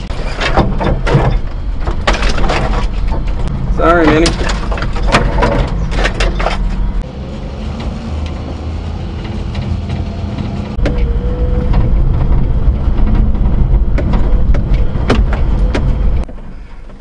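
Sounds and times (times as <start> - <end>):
truck engine low rumble: 0.0 - 17.0.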